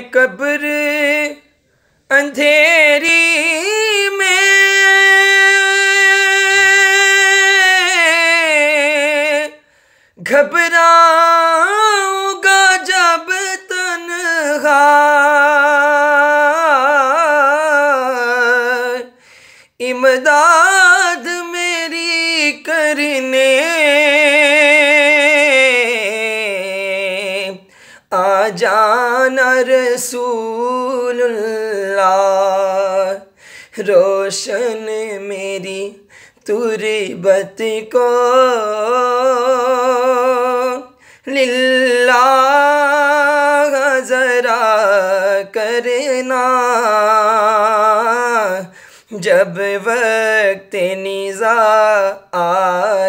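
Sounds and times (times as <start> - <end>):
man singing unaccompanied: 0.0 - 53.0.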